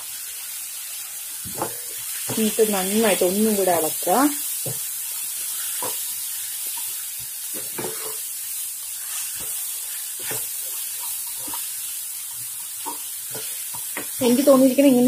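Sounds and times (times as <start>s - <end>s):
chicken sizzling in a pan: 0.0s - 15.0s
wooden spatula scraping a pan: 1.4s - 14.5s.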